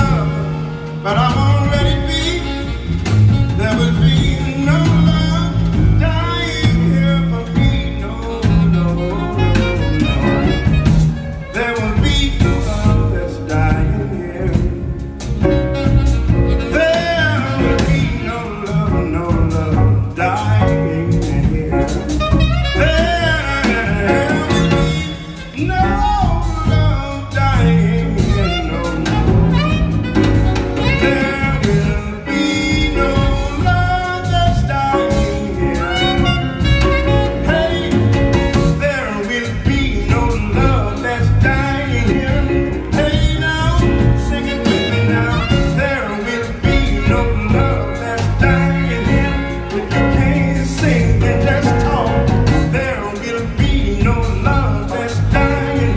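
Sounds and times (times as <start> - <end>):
live jazz band: 0.0 - 55.9
man singing: 0.0 - 55.9.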